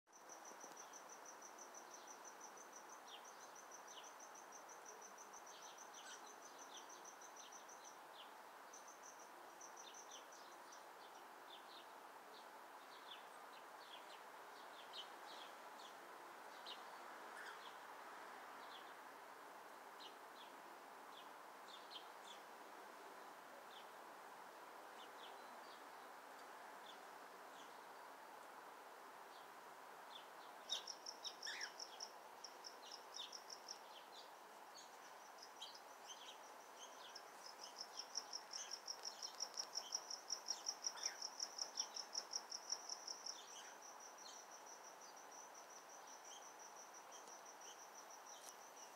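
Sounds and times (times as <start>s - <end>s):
small birds chirping: 0.1s - 17.9s, 19.9s - 22.5s, 29.3s - 48.9s
background hiss: 0.1s - 48.9s.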